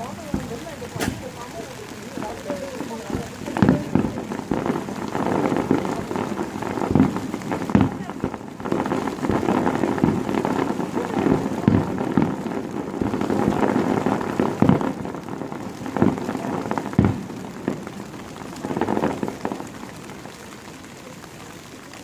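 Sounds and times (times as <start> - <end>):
firework bursts: 0.0 - 22.0
rain pattering: 0.0 - 22.0.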